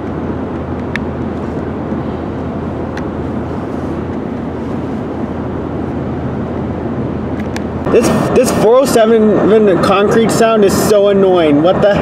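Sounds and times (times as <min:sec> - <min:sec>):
low engine drone: 0:00.0 - 0:12.0
tyre and road noise: 0:00.0 - 0:12.0.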